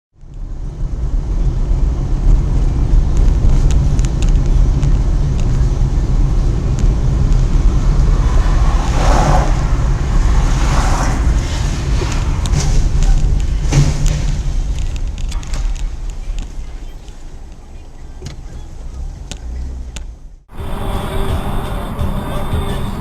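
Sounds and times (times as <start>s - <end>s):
car engine tyre and wind rumble: 0.1s - 23.0s.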